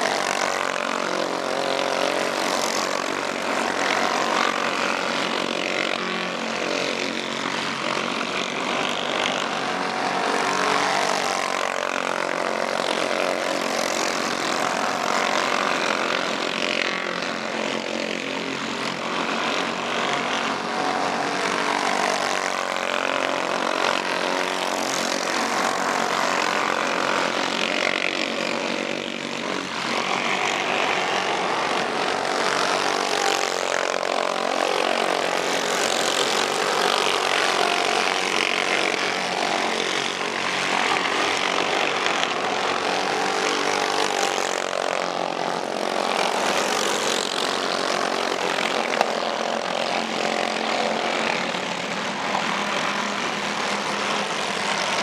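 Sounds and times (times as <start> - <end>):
go-kart engines buzzing: 0.0 - 55.0.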